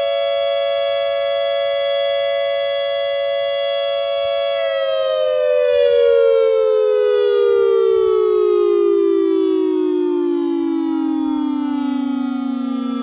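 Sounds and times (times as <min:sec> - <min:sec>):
warning siren winding down: 0:00.0 - 0:13.0.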